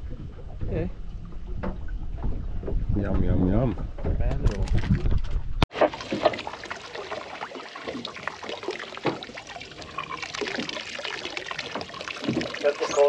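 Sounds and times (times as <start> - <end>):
small waves lapping against boat hull: 0.0 - 13.0.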